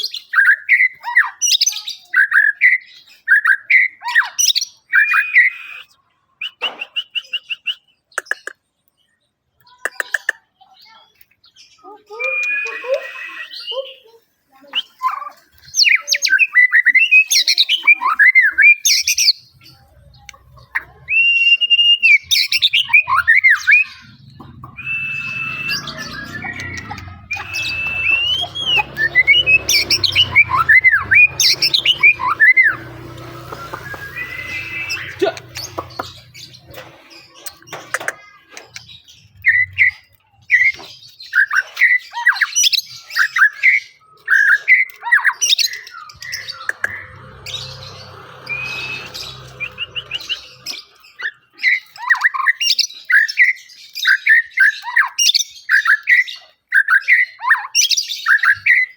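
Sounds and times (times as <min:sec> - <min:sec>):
bird singing whistled song: 0:00.0 - 0:08.1, 0:11.8 - 0:19.6, 0:20.7 - 0:36.7, 0:39.3 - 0:58.9.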